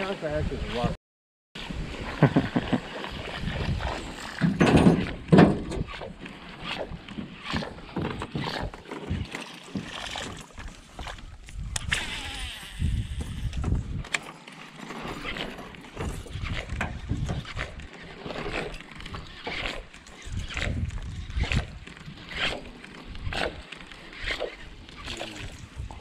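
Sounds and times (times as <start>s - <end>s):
lure splashing across water: 1.8s - 13.6s, 14.2s - 26.0s.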